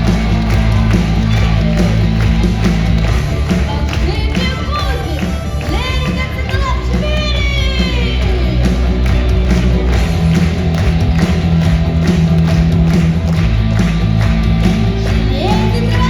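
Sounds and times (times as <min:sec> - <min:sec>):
show music with drum beat: 0:00.0 - 0:16.0.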